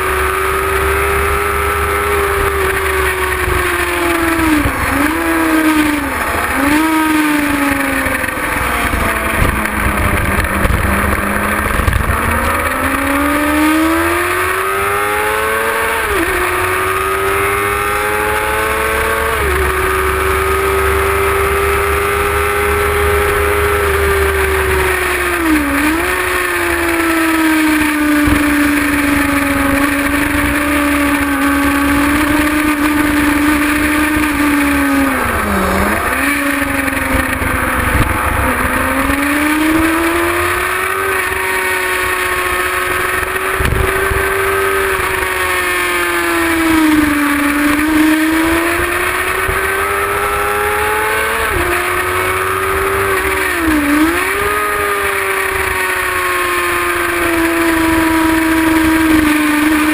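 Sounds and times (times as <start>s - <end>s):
motorcycle engine at high revs: 0.0s - 59.9s.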